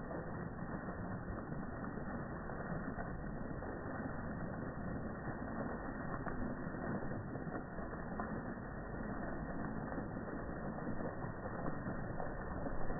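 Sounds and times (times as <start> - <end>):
fountain splashing into pool: 0.0 - 12.9.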